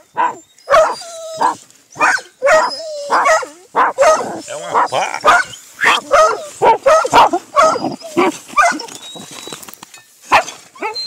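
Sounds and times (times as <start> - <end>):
dog barking: 0.1 - 8.9, 10.3 - 11.0.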